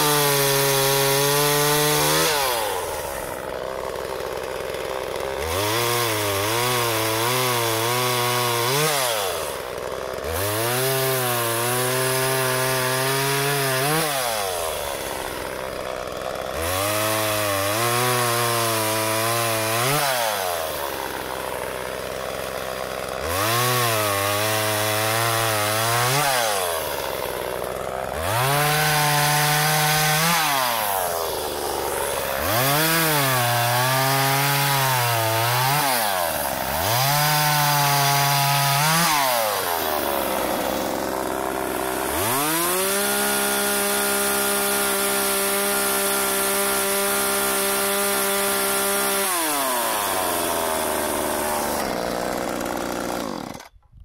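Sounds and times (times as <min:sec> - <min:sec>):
chainsaw cutting a log: 0:00.0 - 0:54.0.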